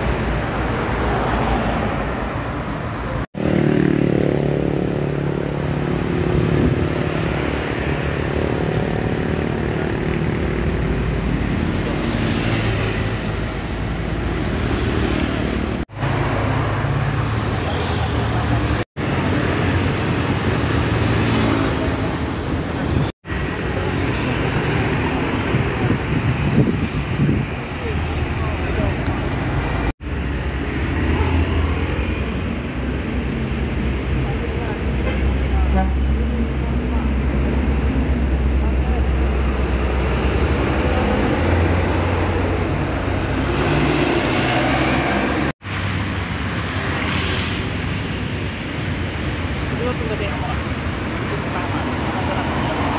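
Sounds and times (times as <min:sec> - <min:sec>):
buses driving past: 0:00.0 - 0:52.9
tyre and road noise: 0:00.0 - 0:52.9
vehicles passing: 0:00.0 - 0:52.9.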